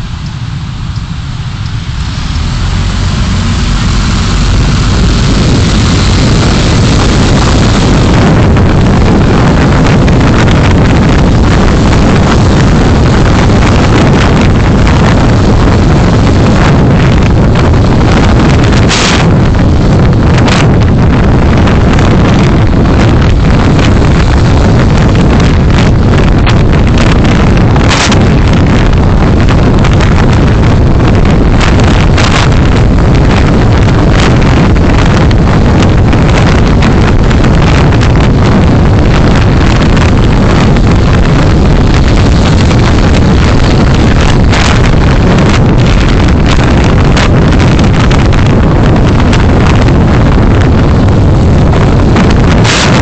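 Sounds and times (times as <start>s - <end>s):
moving vehicle rumble: 0.0s - 53.0s
road and wind noise: 0.0s - 53.0s.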